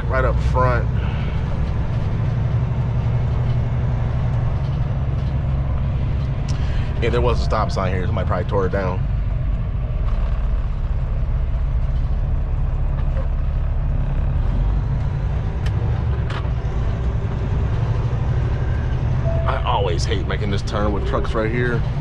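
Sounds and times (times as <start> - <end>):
truck diesel engine running: 0.0 - 22.0.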